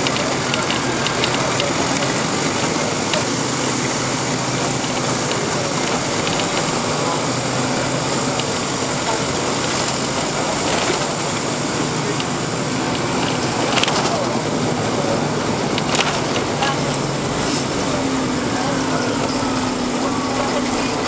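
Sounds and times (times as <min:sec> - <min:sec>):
bus diesel engine running: 0:00.0 - 0:21.0
indistinct voices: 0:00.0 - 0:21.0
road and cabin noise: 0:00.0 - 0:21.0.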